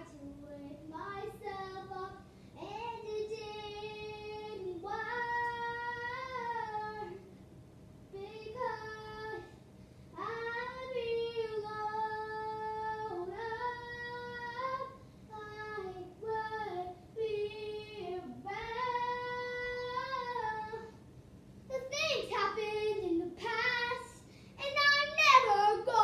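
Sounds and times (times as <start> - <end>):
girl singing unaccompanied: 0.0 - 7.2, 8.1 - 21.0, 21.7 - 26.0.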